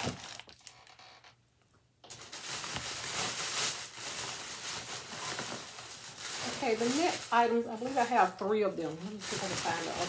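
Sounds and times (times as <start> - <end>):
plastic bag rustling: 0.0 - 1.0, 2.0 - 10.0.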